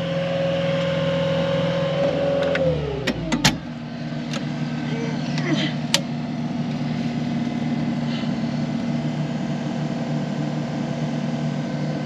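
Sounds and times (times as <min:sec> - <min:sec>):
diesel truck engine running: 0:00.0 - 0:12.0
road noise: 0:00.0 - 0:12.0.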